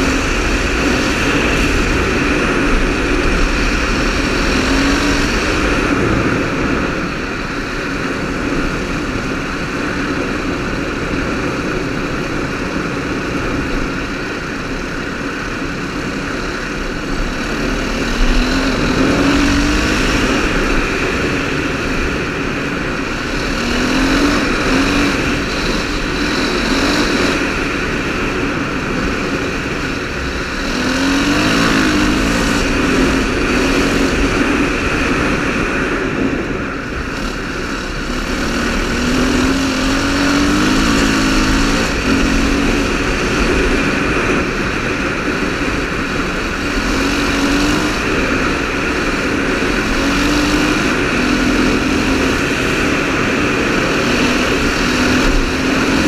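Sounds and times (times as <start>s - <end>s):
motorcycle engine accelerating: 0.0s - 56.0s
wind rushing on microphone: 0.0s - 56.0s.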